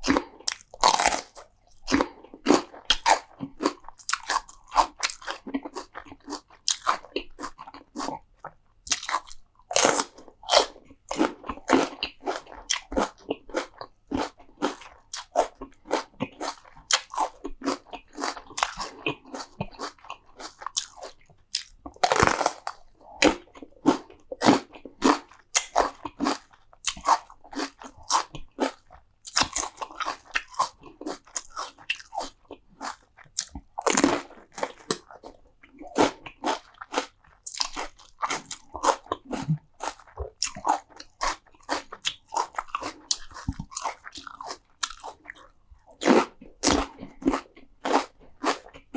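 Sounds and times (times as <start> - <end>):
person chewing crunchy food: 0.0 - 48.9.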